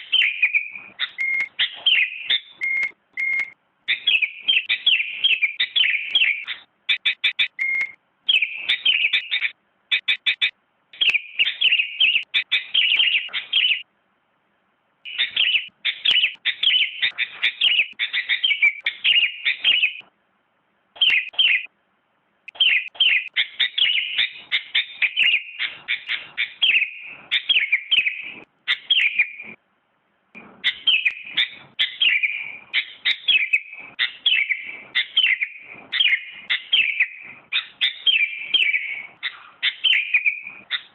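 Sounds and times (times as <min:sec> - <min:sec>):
bird chirping and trilling: 0:00.0 - 0:13.9, 0:15.1 - 0:20.1, 0:21.0 - 0:21.7, 0:22.5 - 0:29.6, 0:30.4 - 0:40.9.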